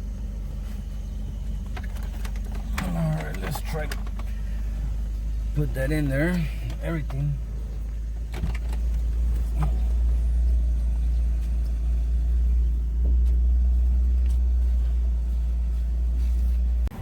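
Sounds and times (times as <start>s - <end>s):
low rumble inside a car: 0.0s - 17.0s.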